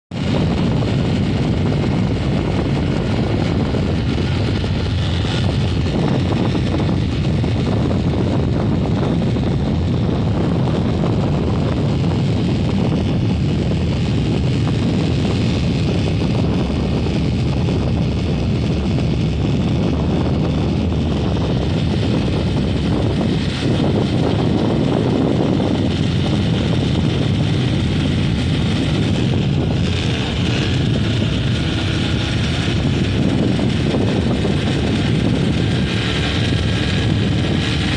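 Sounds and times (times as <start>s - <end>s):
motorcycle running: 0.0s - 37.9s
heavy wind on microphone: 0.1s - 37.9s.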